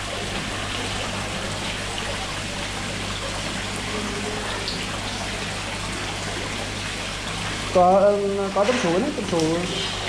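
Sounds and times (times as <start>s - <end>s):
low pump hum: 0.0s - 10.0s
running and bubbling water: 0.0s - 10.0s.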